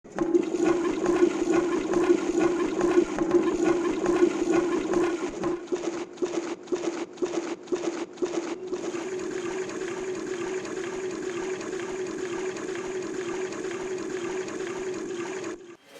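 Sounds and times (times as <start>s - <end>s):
running gurgling water: 0.3s - 15.6s.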